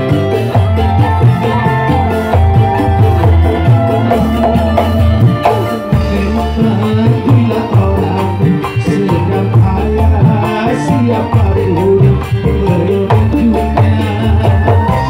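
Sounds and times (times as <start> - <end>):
bass line: 0.0 - 15.0
hand percussion: 0.0 - 15.0
pitched instruments: 0.0 - 15.0.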